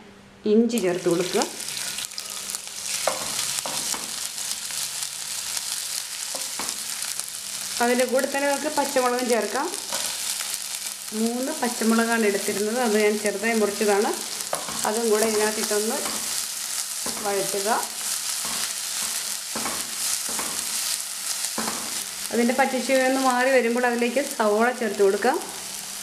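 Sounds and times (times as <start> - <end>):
food sizzling in hot oil: 0.8 - 26.0.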